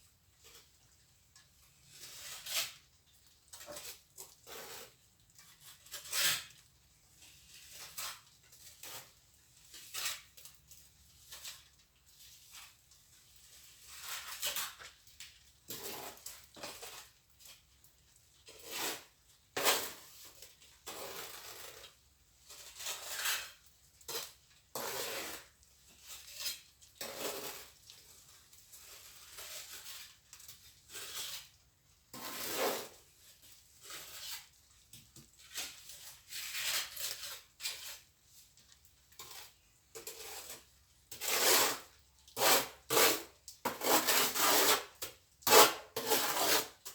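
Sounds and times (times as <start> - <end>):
trowel scraping mortar: 1.8 - 2.9, 3.6 - 6.7, 7.3 - 10.6, 13.6 - 15.0, 15.7 - 17.7, 18.5 - 38.6, 39.2 - 46.9.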